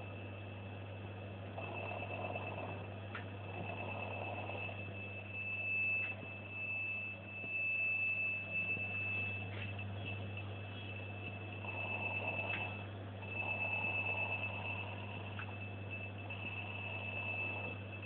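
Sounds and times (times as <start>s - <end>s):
low electrical hum: 0.0s - 18.0s
stepper motor whine: 1.5s - 18.0s.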